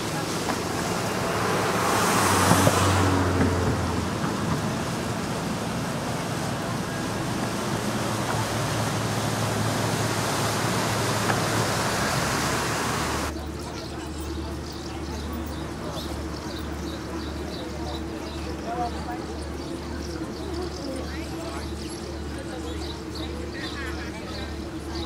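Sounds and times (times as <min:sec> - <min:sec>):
boat engine hum: 0:00.0 - 0:25.0
churning water: 0:00.0 - 0:25.0
road traffic: 0:00.0 - 0:25.0.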